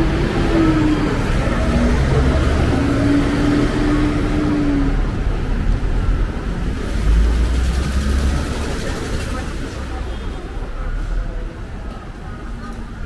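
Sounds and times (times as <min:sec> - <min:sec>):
motor vehicle running: 0:00.0 - 0:11.5.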